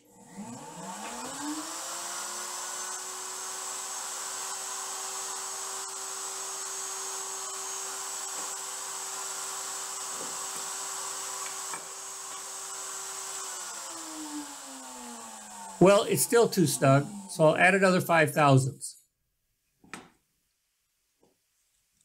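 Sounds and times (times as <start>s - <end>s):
router whining while cutting wood: 0.0s - 18.3s
router winding down: 0.0s - 18.5s.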